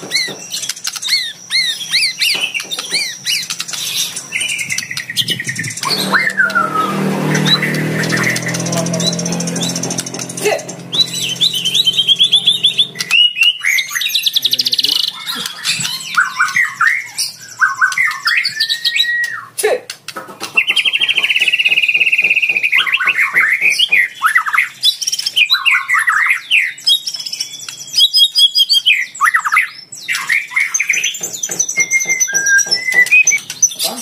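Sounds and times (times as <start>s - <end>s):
songbird singing whistles and trills: 0.0s - 10.3s, 10.9s - 19.6s, 20.5s - 34.0s.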